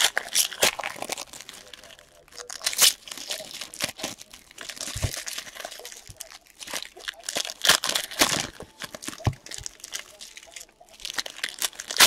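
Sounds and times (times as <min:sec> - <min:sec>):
foil wrappers crinkling and tearing: 0:00.0 - 0:12.0.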